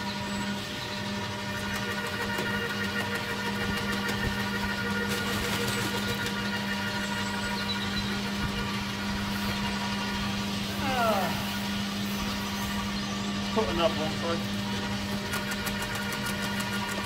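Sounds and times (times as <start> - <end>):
garden shredder motor hum: 0.0 - 17.0.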